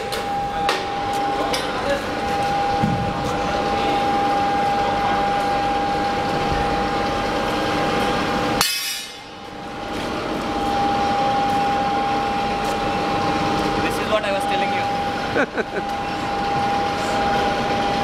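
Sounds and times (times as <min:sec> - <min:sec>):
industrial machinery with high whine: 0:00.0 - 0:18.0.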